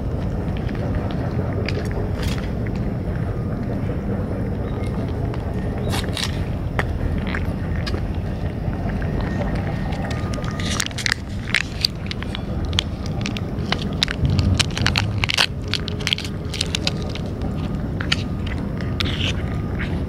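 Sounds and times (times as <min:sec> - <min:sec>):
cats chewing wet food: 0:00.0 - 0:20.0
low steady rumble: 0:00.0 - 0:20.0.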